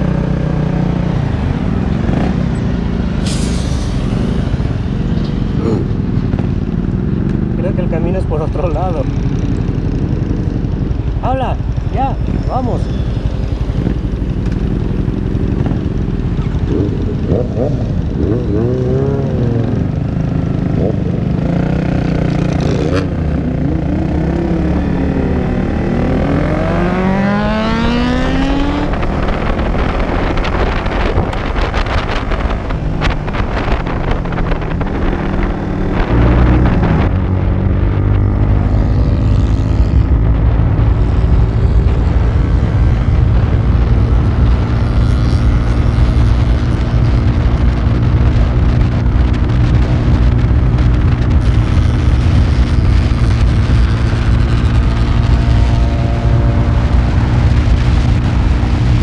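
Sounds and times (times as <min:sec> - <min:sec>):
motorcycle engine cruising: 0:00.0 - 0:59.0
motorcycle engines idling and revving: 0:00.0 - 0:59.0.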